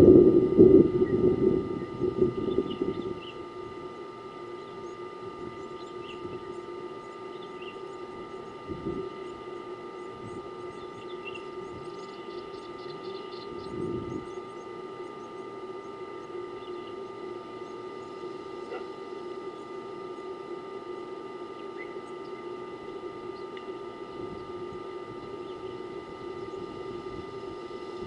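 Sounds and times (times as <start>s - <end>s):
faint steady tones: 0.0s - 28.0s
steady outdoor hum: 0.0s - 28.0s.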